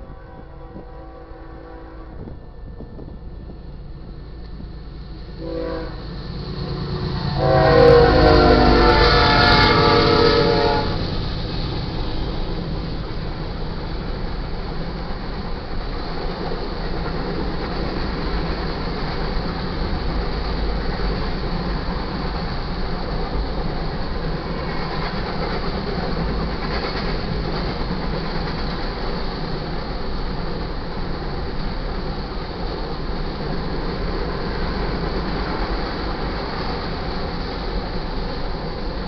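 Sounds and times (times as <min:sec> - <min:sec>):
train wheels rumbling and clacking: 0:00.0 - 0:39.0.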